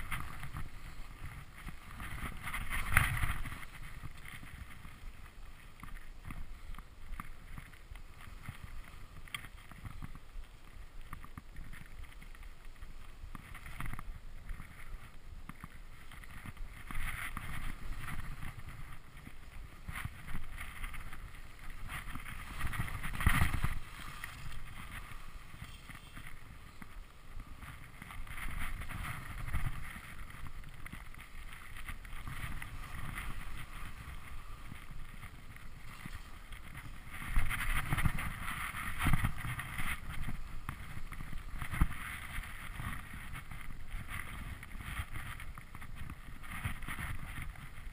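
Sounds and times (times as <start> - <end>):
skis scraping through snow: 0.0 - 47.9
wind on microphone: 0.0 - 47.9.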